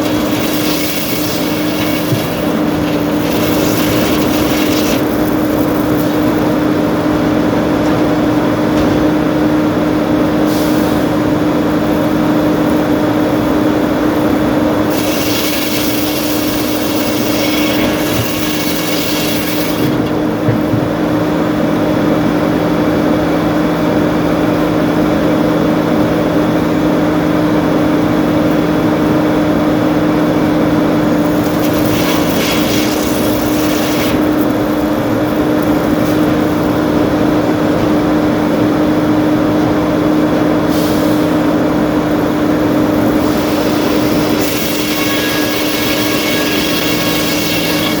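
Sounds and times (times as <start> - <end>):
sawmill machinery humming: 0.0 - 48.0.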